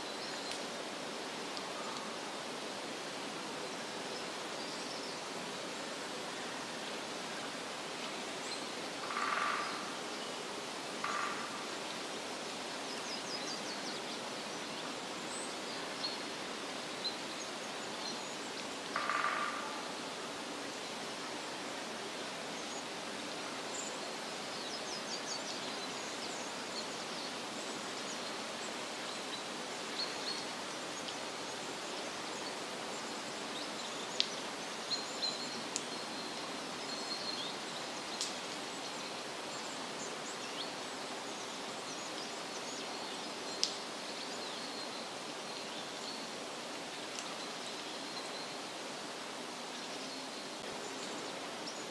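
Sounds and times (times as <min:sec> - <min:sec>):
background hiss: 0:00.0 - 0:51.9.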